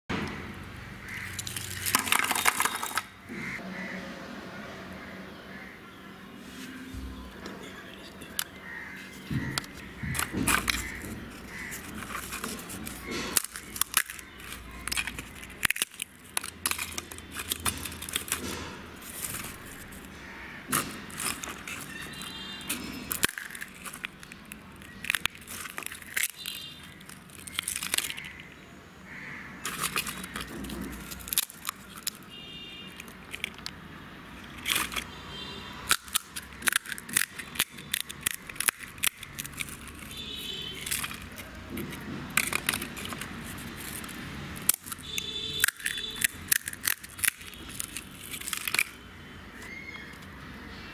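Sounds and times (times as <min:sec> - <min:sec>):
fried shells crackling: 0:00.4 - 0:03.6, 0:08.1 - 0:50.5.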